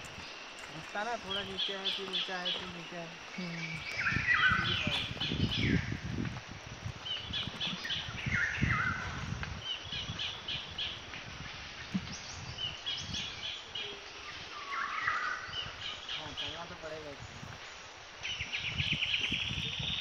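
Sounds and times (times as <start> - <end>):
low rumbling on microphone: 0.0 - 14.6, 15.2 - 20.0
birds singing: 0.0 - 20.0.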